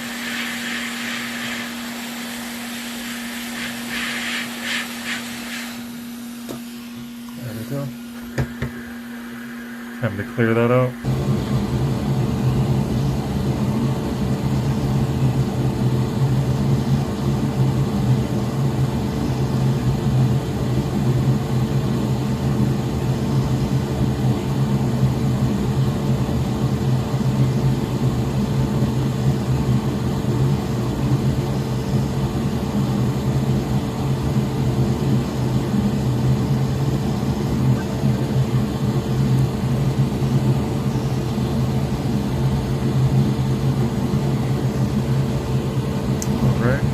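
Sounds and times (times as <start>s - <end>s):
desoldering gun vacuum pump humming: 0.0s - 46.9s.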